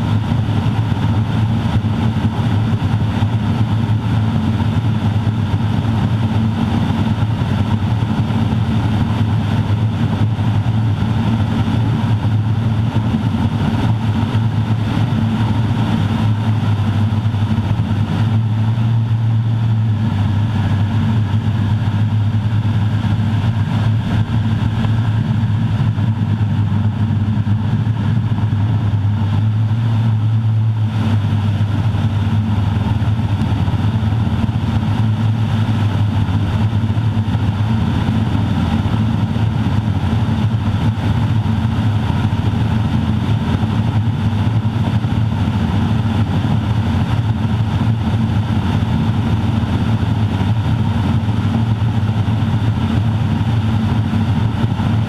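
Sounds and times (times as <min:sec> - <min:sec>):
turboprop engine droning: 0:00.0 - 0:55.0.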